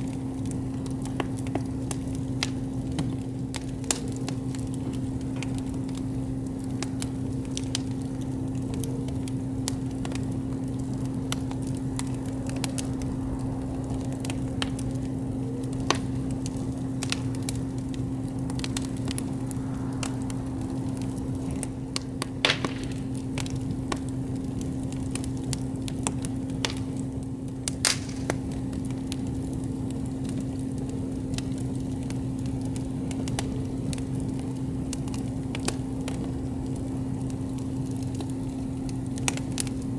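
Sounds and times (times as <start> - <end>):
campfire crackling and popping: 0.0 - 39.9
fire hissing: 0.0 - 39.9
steady low hum: 0.0 - 39.9.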